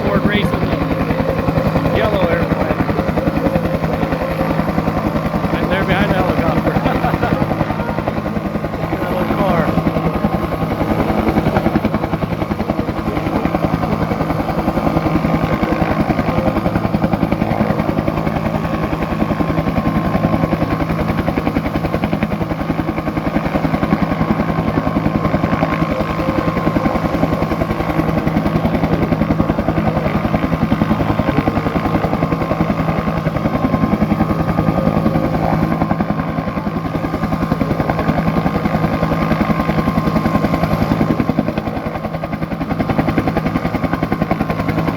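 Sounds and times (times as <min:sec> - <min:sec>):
helicopter rotor beat: 0:00.0 - 0:44.9
turbine whine: 0:00.0 - 0:44.9.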